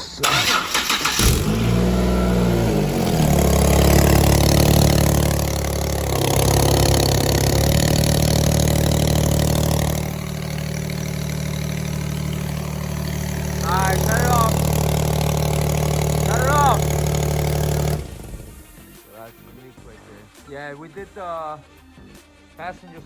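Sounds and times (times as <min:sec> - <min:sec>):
car engine starting and idling: 0:00.0 - 0:19.4.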